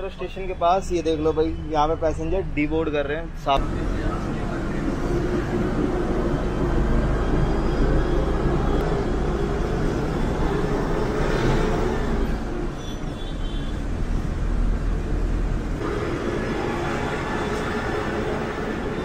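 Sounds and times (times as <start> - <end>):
bus engine and road rumble: 2.4 - 19.0.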